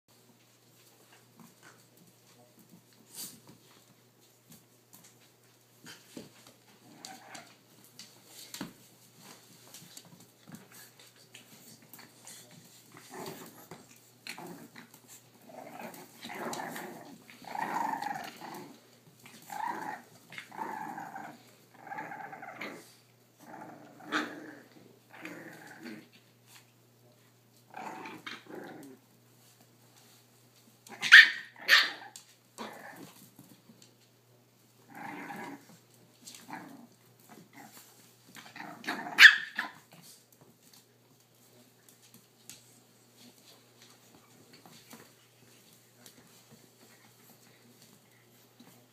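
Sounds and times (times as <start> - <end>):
dogs play-growling: 0.8 - 26.8, 27.5 - 33.9, 34.7 - 40.9, 41.8 - 48.9.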